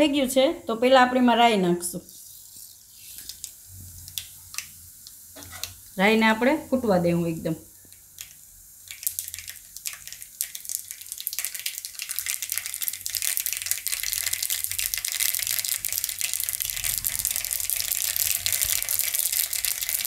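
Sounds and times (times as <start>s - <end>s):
seeds popping in hot oil: 2.0s - 6.0s, 7.8s - 20.0s.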